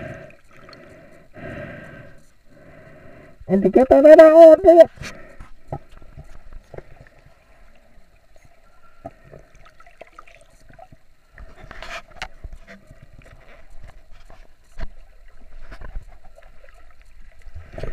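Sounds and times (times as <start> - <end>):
underwater sloshing and gurgling: 0.0 - 3.5, 4.9 - 17.9.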